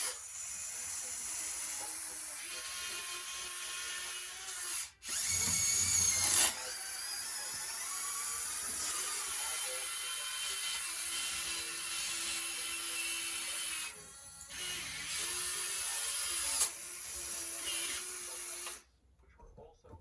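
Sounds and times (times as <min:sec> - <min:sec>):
small electric motors whining: 0:00.0 - 0:18.8.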